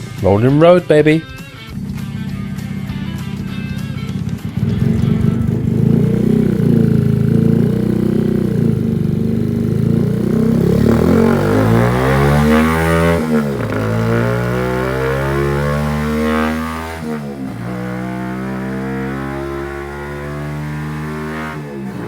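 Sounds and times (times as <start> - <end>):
motorcycle engine revving on dyno: 1.8 - 22.0.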